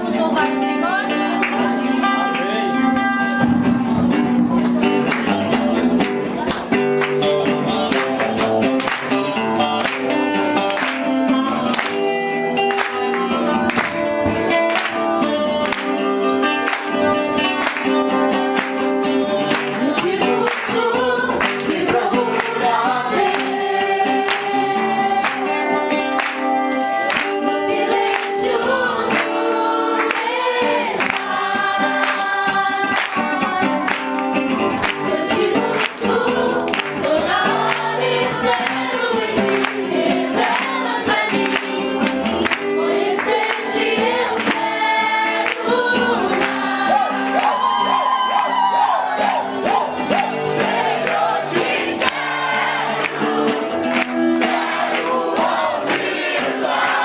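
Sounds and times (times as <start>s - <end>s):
group of voices singing: 0.0s - 57.0s
instruments with rhythmic beat: 0.0s - 57.0s.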